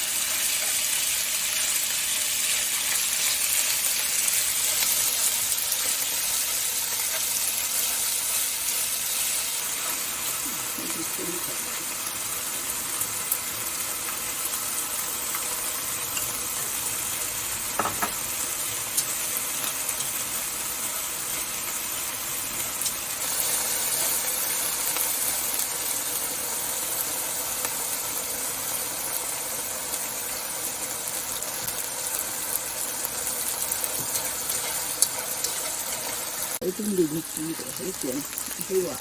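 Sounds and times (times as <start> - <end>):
chicken sizzling in a hot pan: 0.0 - 39.0.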